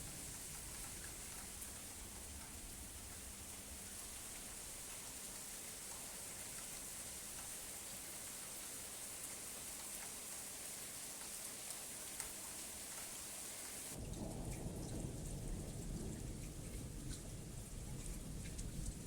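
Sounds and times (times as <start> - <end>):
rain hiss: 0.0 - 19.0.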